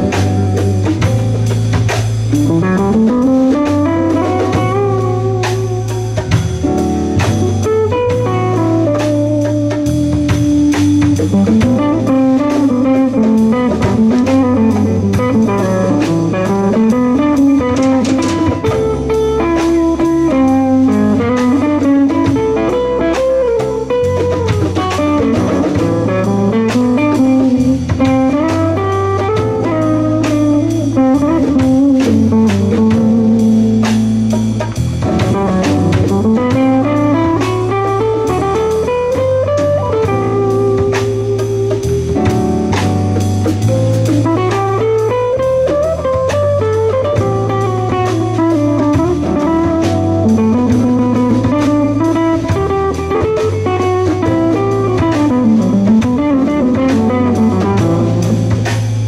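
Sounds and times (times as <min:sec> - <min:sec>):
drum kit: 0:00.0 - 0:59.0
electric bass: 0:00.0 - 0:59.0
electric guitar solo: 0:00.0 - 0:59.0.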